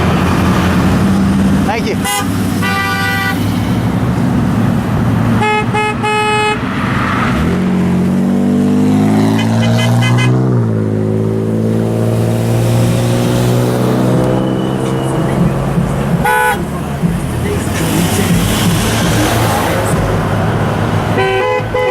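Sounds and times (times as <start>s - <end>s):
freeway traffic: 0.0s - 21.9s
vehicle engine accelerating: 0.0s - 21.9s
car horns honking: 1.7s - 4.6s, 5.2s - 7.6s, 8.9s - 21.9s.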